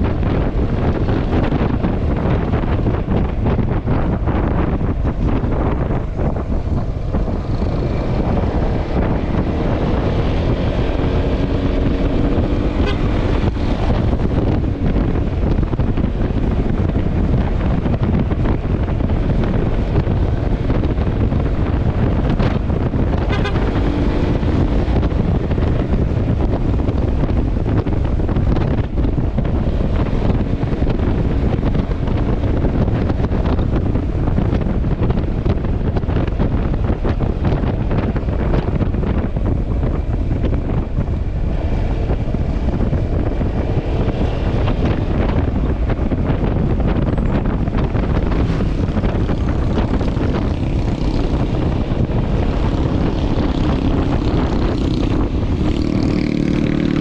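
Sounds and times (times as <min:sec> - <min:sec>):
road noise: 0:00.0 - 0:57.0
wind buffeting microphone: 0:00.0 - 0:57.0.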